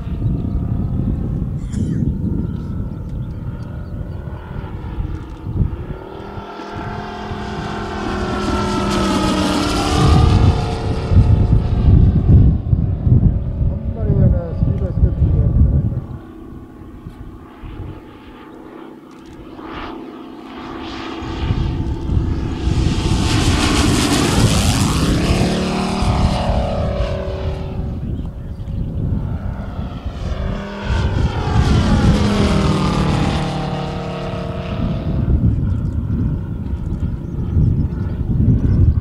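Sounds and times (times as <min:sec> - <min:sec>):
model plane engine flying past: 0:00.0 - 0:39.0.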